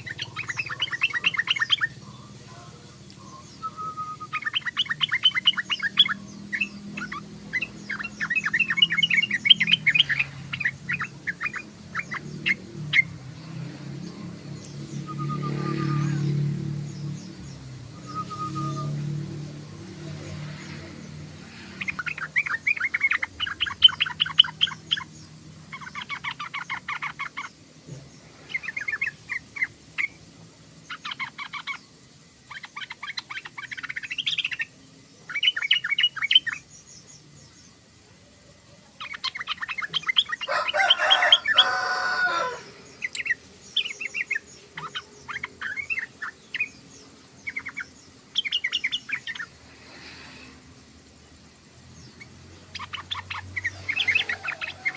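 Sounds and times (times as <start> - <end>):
bird chattering song: 0.0 - 54.9.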